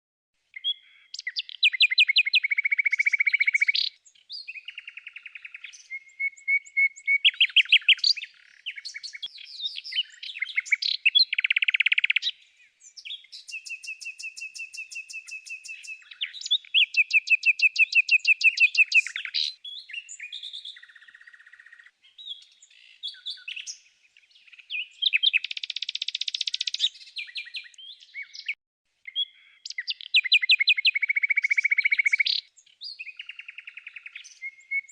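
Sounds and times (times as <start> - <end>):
songbird singing: 0.4 - 34.9.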